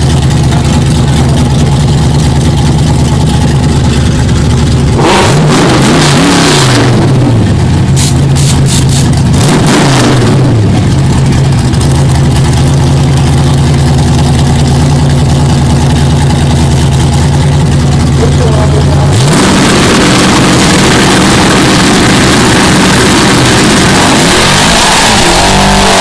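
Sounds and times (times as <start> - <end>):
race car engines revving: 0.0 - 26.0.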